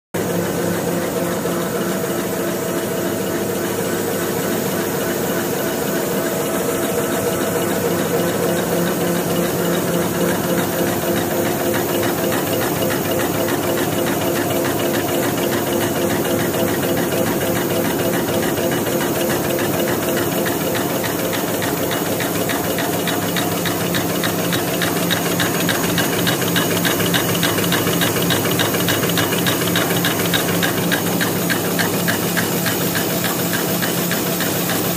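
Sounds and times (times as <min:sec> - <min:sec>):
folding machine humming and clicking: 0:00.2 - 0:34.9.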